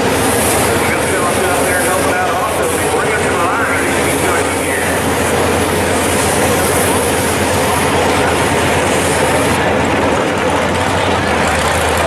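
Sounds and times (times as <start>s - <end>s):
drag car engines rumbling: 0.0s - 12.0s.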